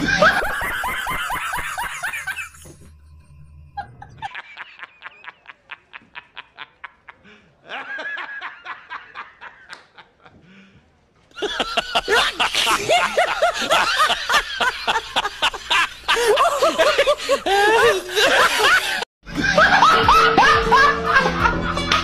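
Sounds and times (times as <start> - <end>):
men laughing hard: 0.0 - 2.8, 3.8 - 10.4, 11.4 - 22.0.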